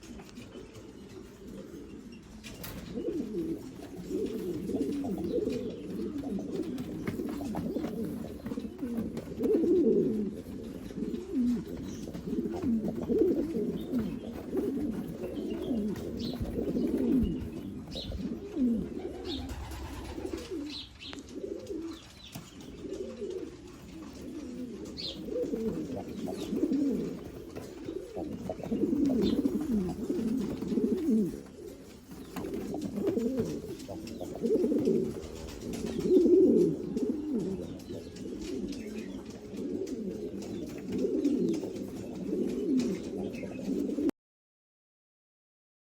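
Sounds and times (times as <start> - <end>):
pigeons cooing: 0.0 - 44.1.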